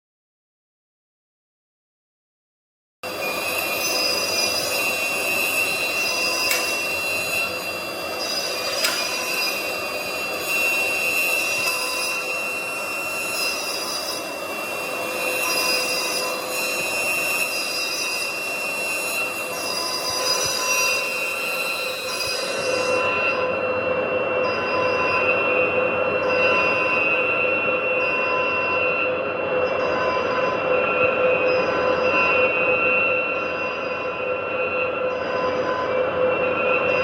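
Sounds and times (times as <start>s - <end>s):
router spindle whining: 3.1s - 35.7s.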